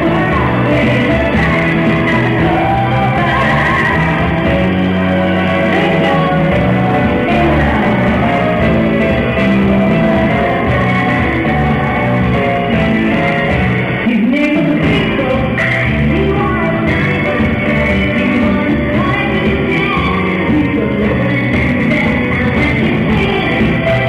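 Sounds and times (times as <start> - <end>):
loud music with singing: 0.0 - 24.0
strong bass line: 0.0 - 24.0.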